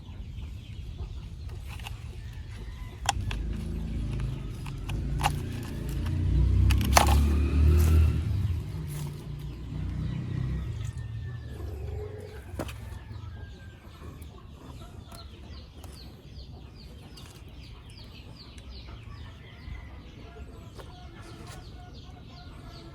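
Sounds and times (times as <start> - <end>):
chicks peeping: 0.0 - 22.9.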